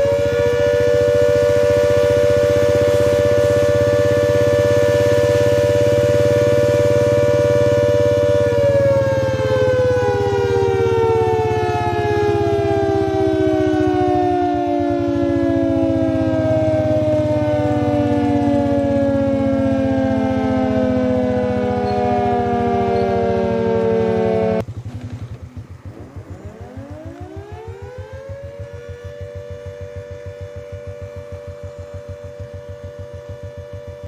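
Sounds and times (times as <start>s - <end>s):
low hum: 0.0s - 34.0s
siren-like wail: 0.0s - 34.0s.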